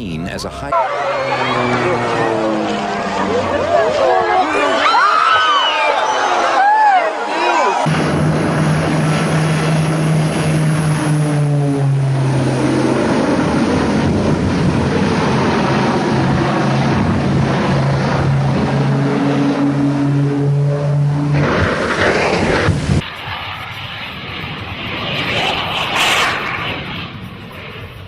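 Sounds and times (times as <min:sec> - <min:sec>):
propeller aircraft engine droning: 0:00.0 - 0:28.0.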